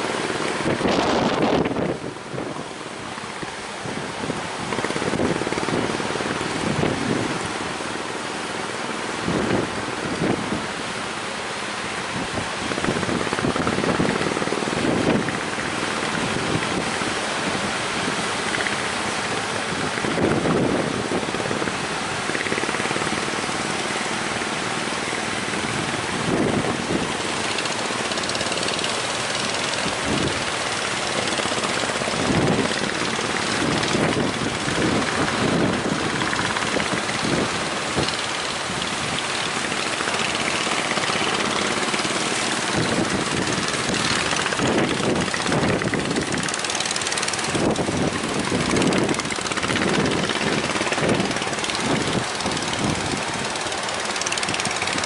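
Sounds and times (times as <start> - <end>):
wind buffeting microphone: 0.0 - 11.0, 11.8 - 55.0
outboard engine running: 0.0 - 55.0.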